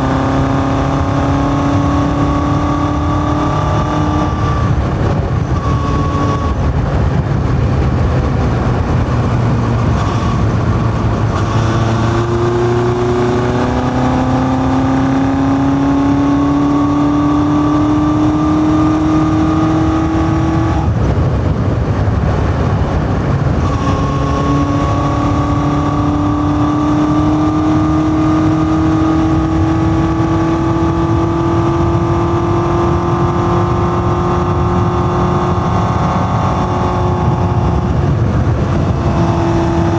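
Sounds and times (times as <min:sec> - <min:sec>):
motorcycle engine pulling: 0:00.0 - 0:39.9.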